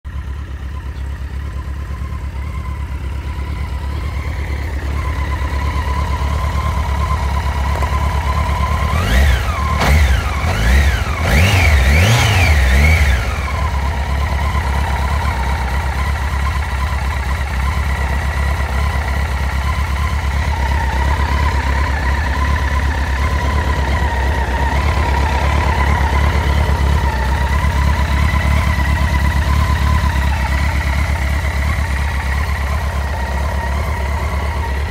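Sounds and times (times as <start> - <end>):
motorcycle engine idling: 0.0 - 34.9
high engine whine: 0.1 - 34.9.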